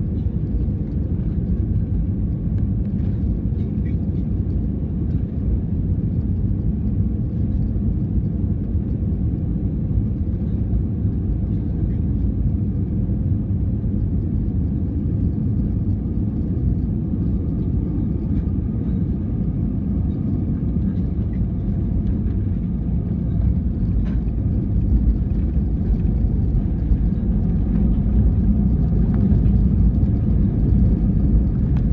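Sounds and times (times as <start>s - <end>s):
airliner engine rumble: 0.0s - 31.9s.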